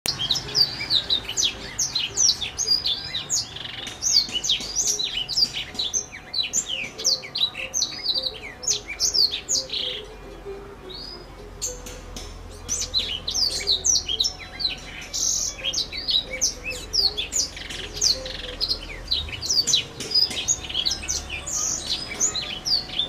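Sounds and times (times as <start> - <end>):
songbird singing chirps and trills: 0.1 - 23.0.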